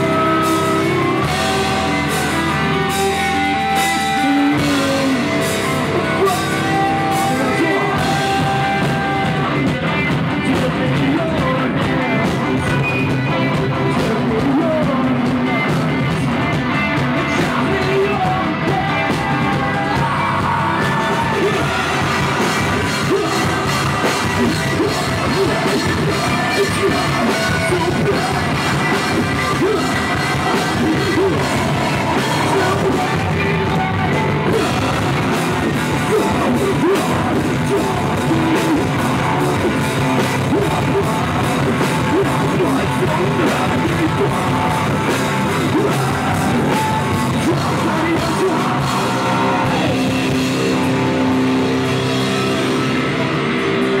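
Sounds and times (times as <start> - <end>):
electric guitars: 0.0 - 54.0
pounding drum kit: 0.0 - 54.0.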